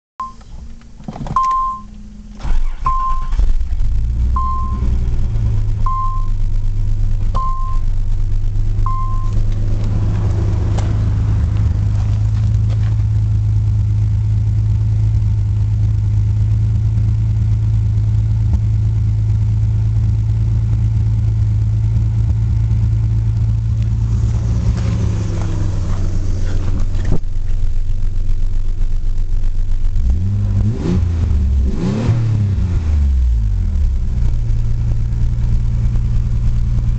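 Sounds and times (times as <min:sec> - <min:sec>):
car engine cranking and idling: 0:00.2 - 0:36.9.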